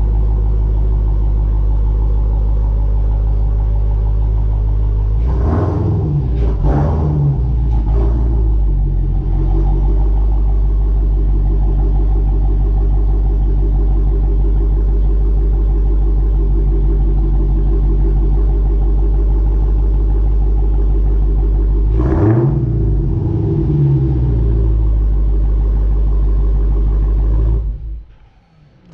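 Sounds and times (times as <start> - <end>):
car engine rumbling and revving: 0.0 - 28.9.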